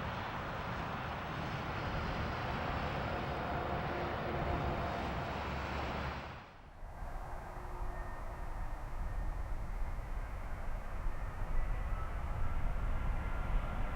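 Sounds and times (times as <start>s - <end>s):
faint engine whine: 0.0s - 13.9s.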